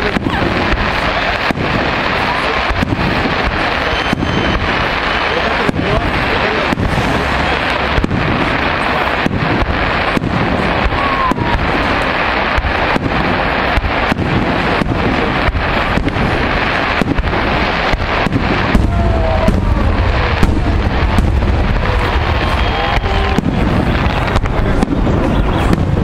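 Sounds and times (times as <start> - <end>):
fireworks bursting: 0.0 - 26.0
fireworks whistles: 0.0 - 26.0
low booming: 0.0 - 26.0.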